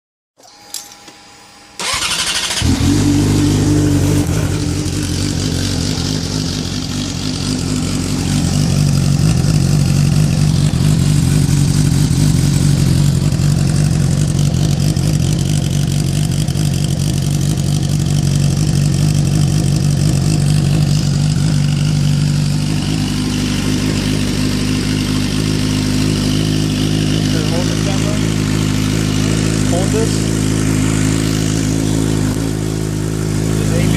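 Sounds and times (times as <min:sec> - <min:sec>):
motorcycle engine starting and idling: 0:01.8 - 0:33.9.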